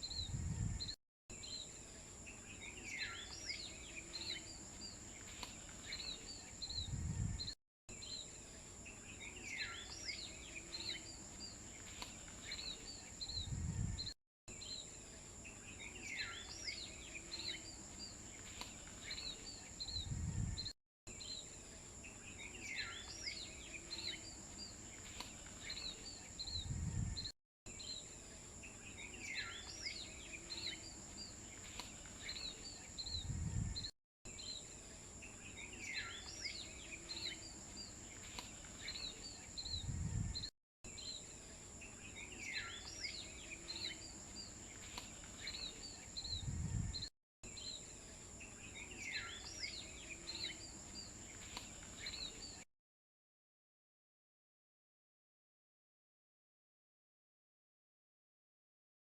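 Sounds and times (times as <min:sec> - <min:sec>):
birds chirping: 0:00.0 - 0:52.6.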